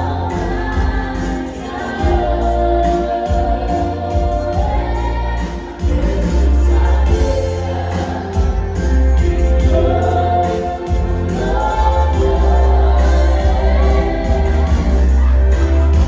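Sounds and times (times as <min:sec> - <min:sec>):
waltz music with singing: 0:00.0 - 0:16.0
strong steady bass line: 0:02.0 - 0:16.0.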